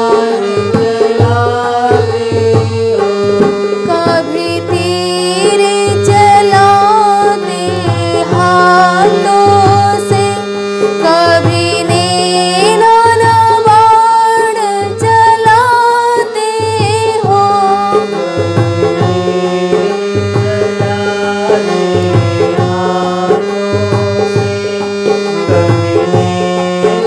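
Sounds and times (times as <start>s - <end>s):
person singing: 0.0s - 18.6s, 20.4s - 27.0s
hand drum rhythm: 0.0s - 27.0s
harmonium melody: 0.0s - 27.0s.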